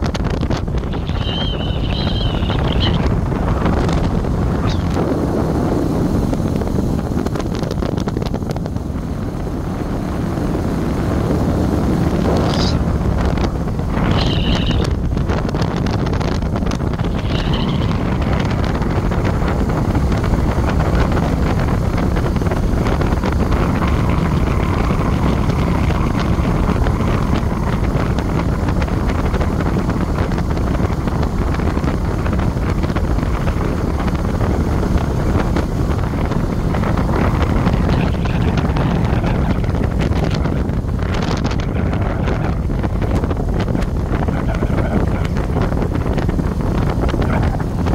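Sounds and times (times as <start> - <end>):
road noise: 0.0 - 47.9
wind rushing over microphone: 0.0 - 47.9.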